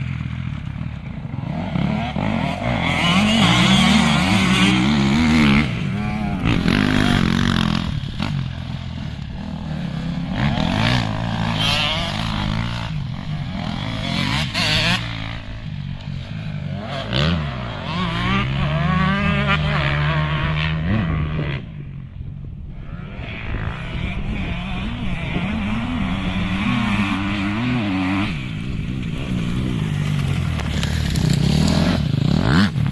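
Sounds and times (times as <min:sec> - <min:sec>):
motocross bike engines revving: 0:00.0 - 0:32.9.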